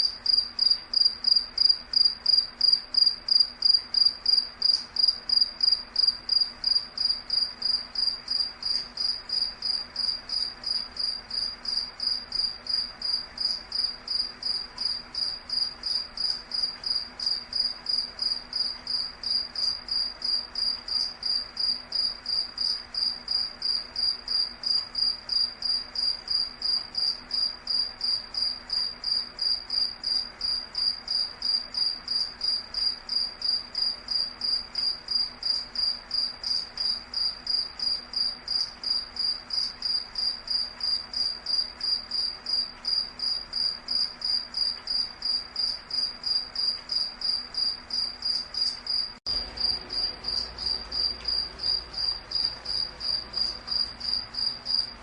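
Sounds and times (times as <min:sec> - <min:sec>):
cricket-like insect chirping: 0:00.0 - 0:55.0.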